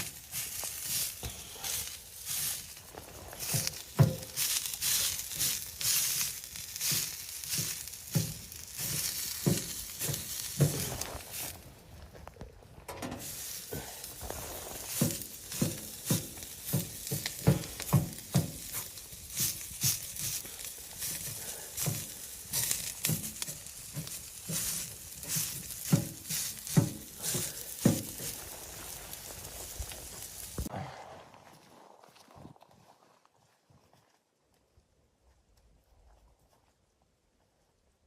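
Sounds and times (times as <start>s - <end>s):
footsteps crunching in snow: 0.0s - 36.8s.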